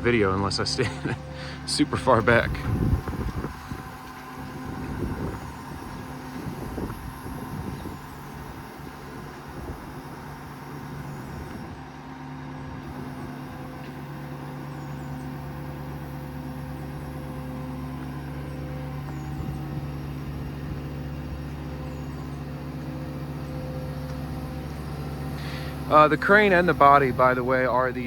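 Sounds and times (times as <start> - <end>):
diesel truck engine droning: 0.0 - 28.0.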